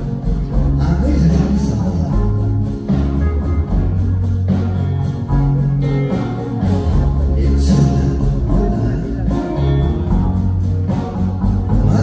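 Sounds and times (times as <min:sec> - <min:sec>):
live band playing slow ballad: 0:00.0 - 0:12.0.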